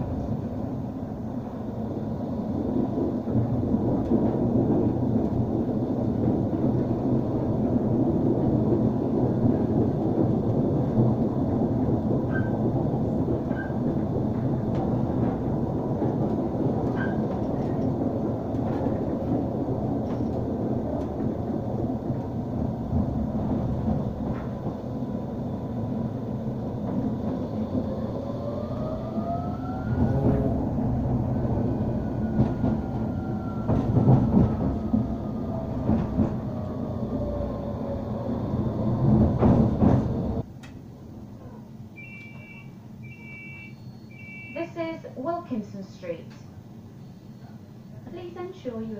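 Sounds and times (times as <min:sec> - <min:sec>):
tram wheels rumbling on rails: 0:00.0 - 0:48.9.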